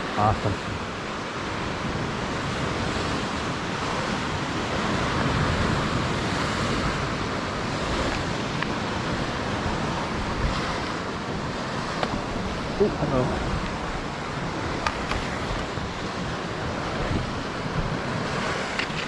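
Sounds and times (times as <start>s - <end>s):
surf washing against shore: 0.0s - 19.0s
wind: 0.0s - 19.0s.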